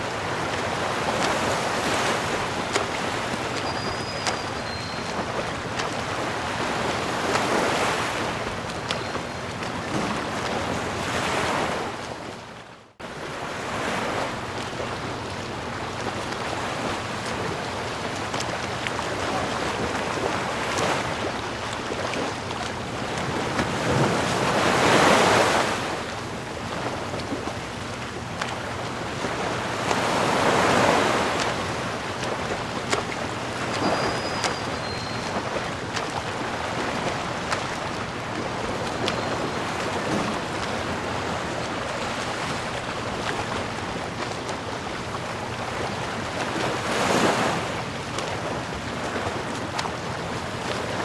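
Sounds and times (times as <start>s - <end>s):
ocean waves washing: 0.0s - 51.0s.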